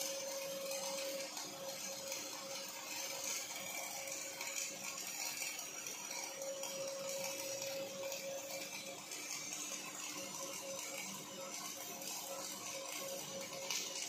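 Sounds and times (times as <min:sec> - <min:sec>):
welding arc hiss: 0:00.0 - 0:14.0.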